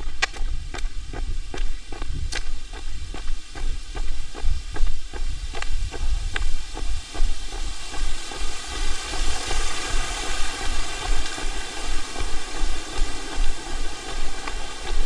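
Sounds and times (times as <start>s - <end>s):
running footfalls on trail: 0.0s - 15.0s
steady rushing noise: 0.0s - 15.0s.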